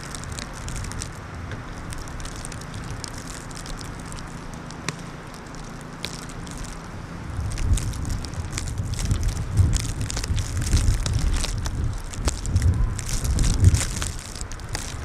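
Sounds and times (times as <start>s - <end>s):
sharp crackles: 0.0s - 15.0s
wind buffeting microphone: 0.0s - 15.0s.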